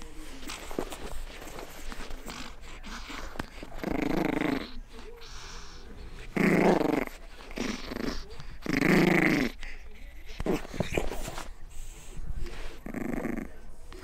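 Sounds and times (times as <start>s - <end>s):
puppy play-growling: 0.0s - 14.0s.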